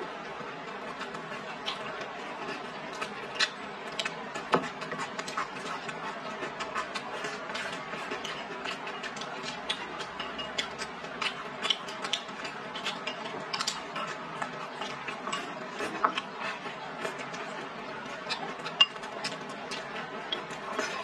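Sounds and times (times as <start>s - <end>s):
wet chewing and mouth smacks: 0.7s - 21.0s.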